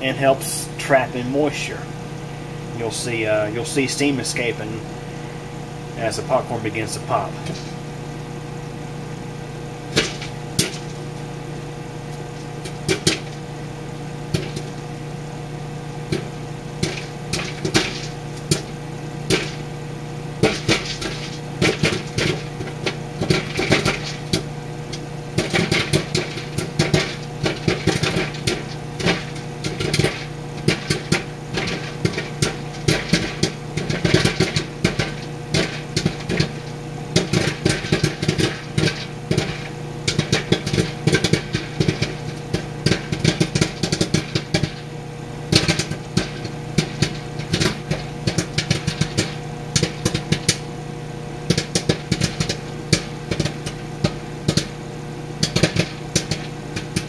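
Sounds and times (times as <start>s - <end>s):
microwave oven hum: 0.0s - 57.0s
popcorn popping: 0.0s - 57.0s.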